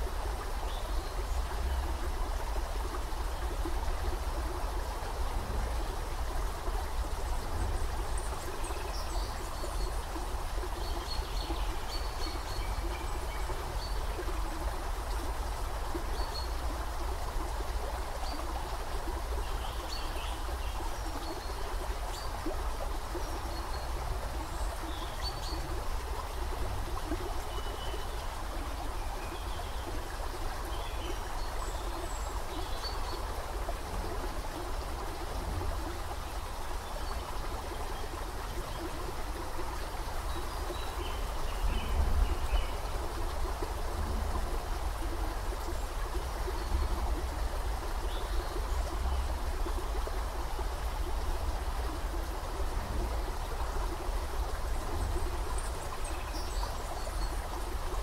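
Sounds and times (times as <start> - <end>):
creek water over rocks: 0.0 - 58.0.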